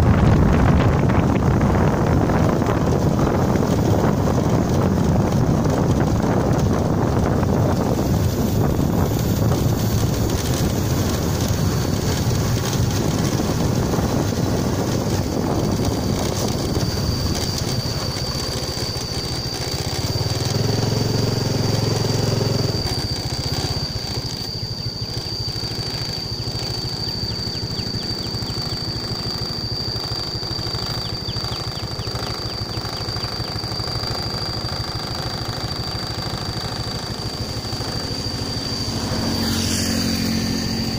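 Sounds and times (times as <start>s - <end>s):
deep engine hum: 0.0s - 40.9s
engine and road noise: 0.0s - 40.9s
high-pitched whine: 0.0s - 40.9s
wind buffeting microphone: 0.0s - 40.9s.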